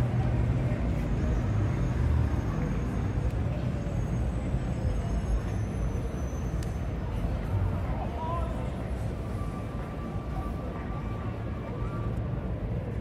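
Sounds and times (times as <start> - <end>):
faint voices: 0.0 - 13.0
low street rumble: 0.0 - 13.0.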